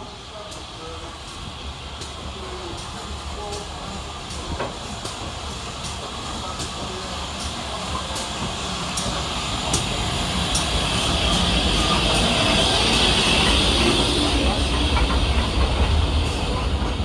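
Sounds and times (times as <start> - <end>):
steam hiss: 0.0 - 17.0
steam locomotive rumble: 0.0 - 17.0.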